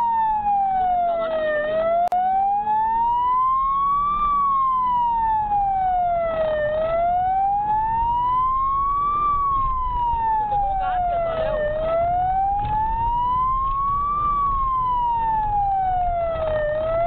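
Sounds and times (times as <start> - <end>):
car engine and road noise: 0.0 - 17.0
police siren wailing: 0.0 - 17.0.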